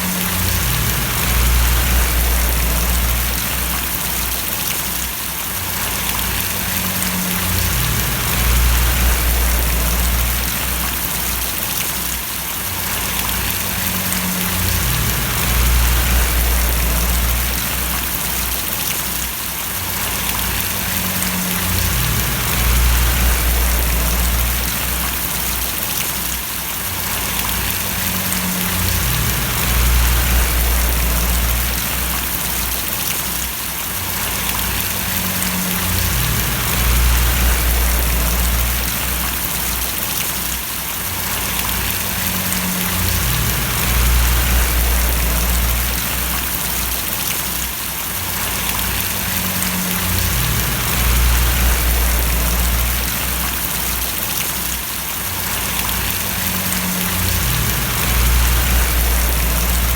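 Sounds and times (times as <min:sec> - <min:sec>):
low rumble: 0:00.0 - 0:04.6, 0:05.8 - 0:11.5, 0:13.0 - 0:18.8, 0:20.1 - 0:25.8, 0:27.3 - 0:33.0, 0:34.2 - 0:40.0, 0:41.4 - 0:47.3, 0:48.4 - 0:54.2, 0:55.7 - 0:59.9
rain falling and splashing: 0:00.0 - 0:59.9.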